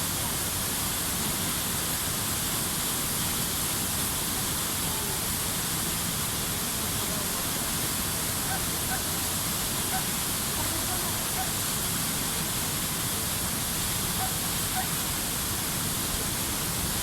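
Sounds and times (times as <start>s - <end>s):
water rushing down spillway: 0.0s - 17.0s.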